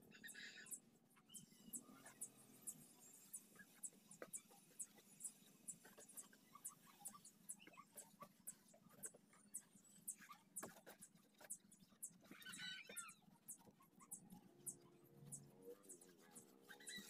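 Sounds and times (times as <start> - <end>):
bird chirps: 0.0 - 17.0.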